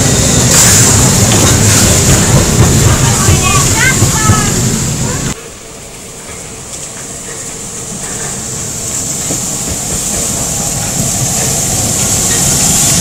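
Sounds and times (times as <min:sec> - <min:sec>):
steam locomotive hiss and rumble: 0:00.0 - 0:13.0.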